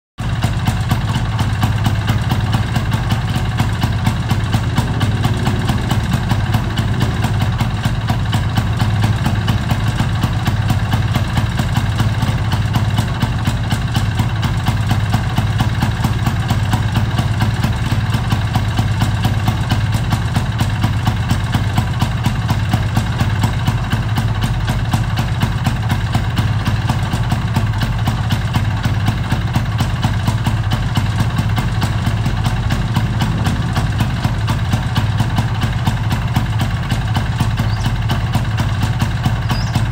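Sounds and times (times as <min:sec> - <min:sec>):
scooter engine idling: 0:00.2 - 0:39.9.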